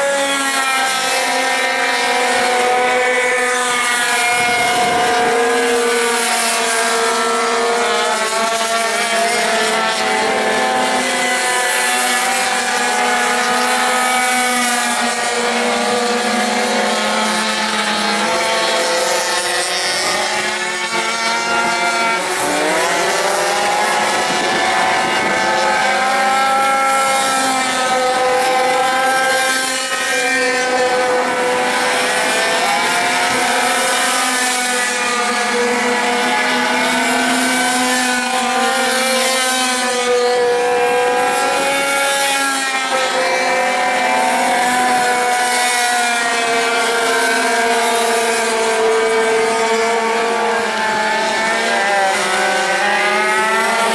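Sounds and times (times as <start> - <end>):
small two-stroke engines buzzing: 0.0 - 53.9.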